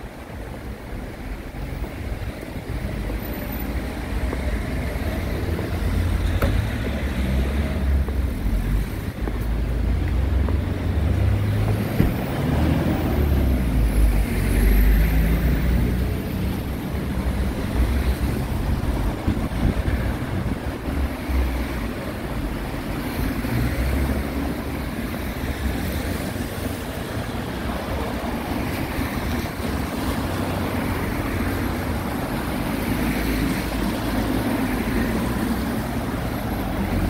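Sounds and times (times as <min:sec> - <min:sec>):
cars driving past on wet road: 0:00.0 - 0:37.0.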